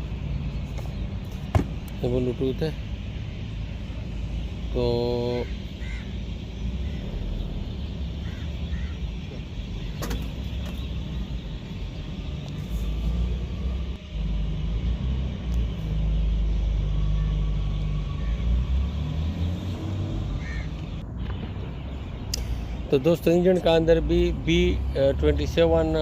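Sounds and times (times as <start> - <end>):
motor vehicle engine rumbling: 0.0 - 26.0.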